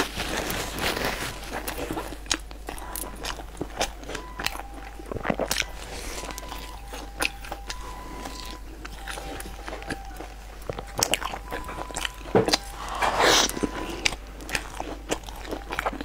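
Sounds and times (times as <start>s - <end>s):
biting and chewing bread: 0.0s - 16.0s.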